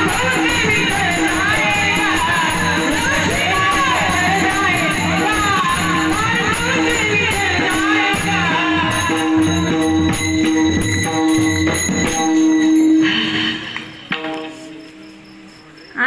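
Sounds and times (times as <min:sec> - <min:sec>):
hand drum: 0:00.0 - 0:14.8
brass hand cymbals clashing: 0:00.0 - 0:15.2.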